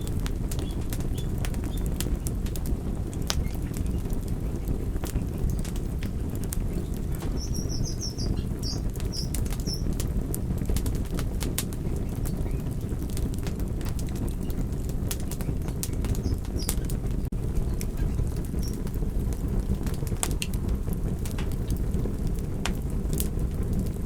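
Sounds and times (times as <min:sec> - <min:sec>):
fire crackling and popping: 0:00.0 - 0:24.0
fire rushing: 0:00.0 - 0:24.0.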